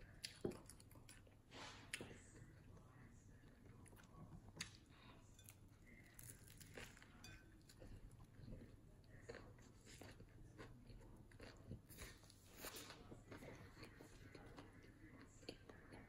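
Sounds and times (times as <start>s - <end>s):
crunching and chewing bread: 0.0s - 16.0s.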